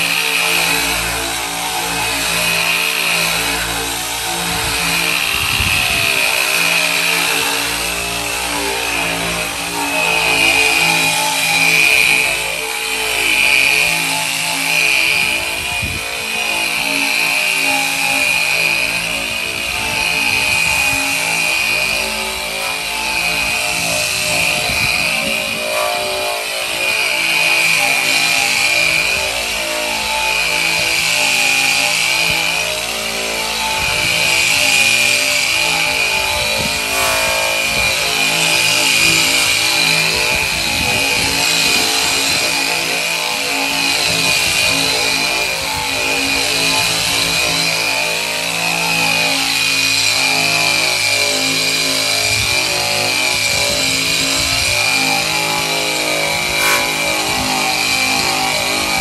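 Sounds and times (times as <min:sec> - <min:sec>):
power sander whining on metal: 0:00.0 - 0:59.0.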